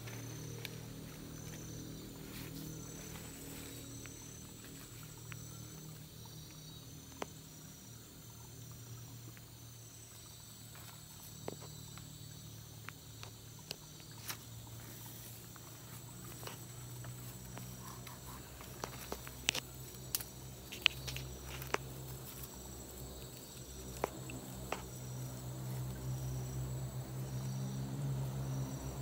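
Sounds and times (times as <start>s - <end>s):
insects chirring: 0.0s - 29.0s
low steady hum: 0.0s - 29.0s.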